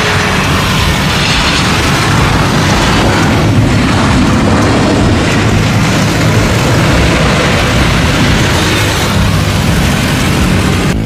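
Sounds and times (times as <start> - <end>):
jet engines roaring on landing: 0.0 - 11.0.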